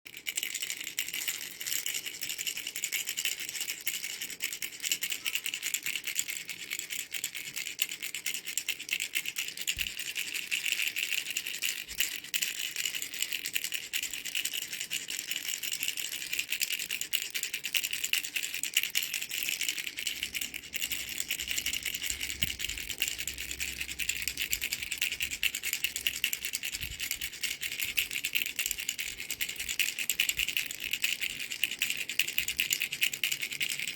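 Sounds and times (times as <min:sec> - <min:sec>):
baby rattle shaken: 0:00.1 - 0:33.9.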